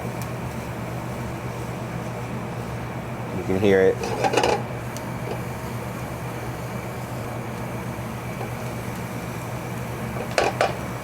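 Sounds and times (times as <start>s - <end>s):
onions sizzling in butter: 0.0s - 11.0s.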